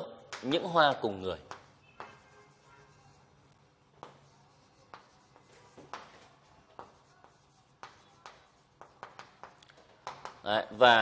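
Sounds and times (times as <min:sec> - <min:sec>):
chalk writing on blackboard: 0:00.3 - 0:10.5.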